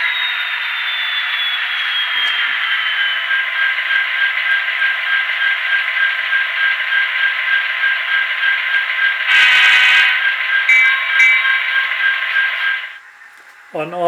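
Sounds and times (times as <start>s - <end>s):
tinny diesel engine sound from speaker: 0.0s - 14.0s.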